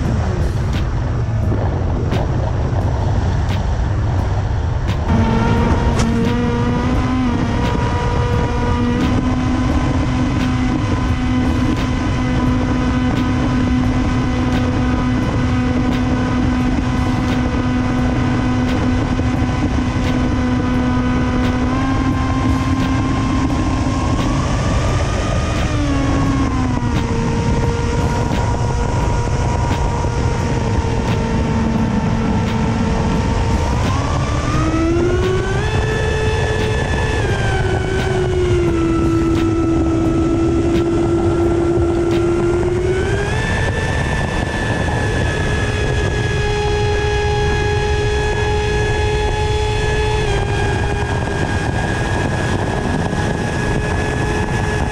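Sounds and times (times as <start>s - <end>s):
drone motor whine: 0.0s - 54.9s
wind rush: 0.0s - 54.9s.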